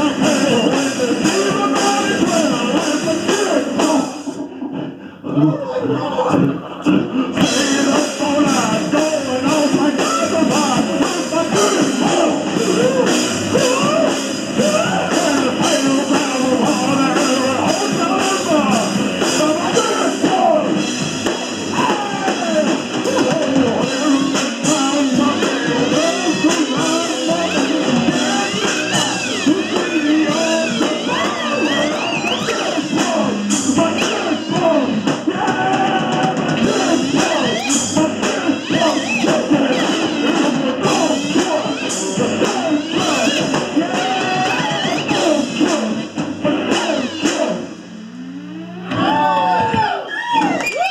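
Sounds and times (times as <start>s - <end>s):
electric guitar: 0.0s - 4.9s, 5.9s - 50.9s
drum kit: 0.0s - 5.0s, 6.4s - 50.9s
rock band playing: 0.0s - 5.0s, 6.3s - 50.8s.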